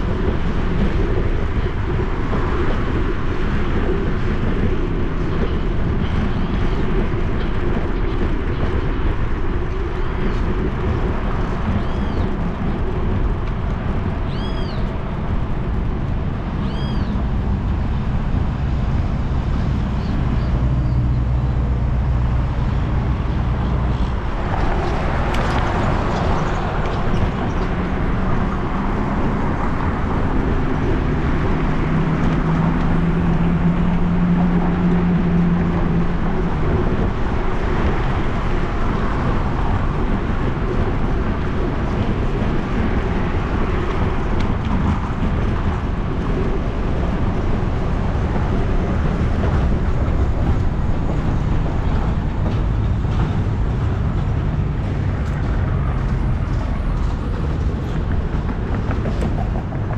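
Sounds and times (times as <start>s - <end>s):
road traffic passing: 0.0s - 59.9s
vehicle engine hum: 0.0s - 59.9s.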